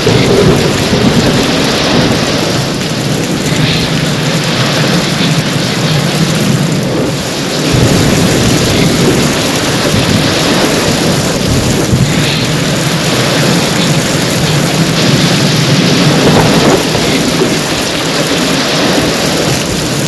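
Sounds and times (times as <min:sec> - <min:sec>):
heavy rain falling: 0:00.0 - 0:20.0
low thunder rumble: 0:00.0 - 0:20.0.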